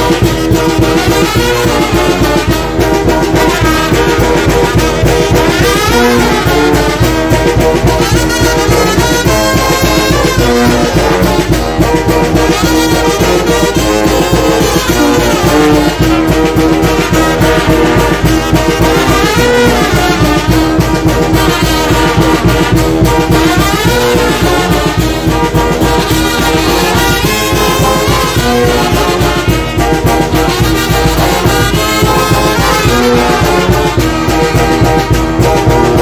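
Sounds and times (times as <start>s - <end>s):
bass drum and cymbals beat: 0.0s - 36.0s
brass band playing: 0.0s - 36.0s.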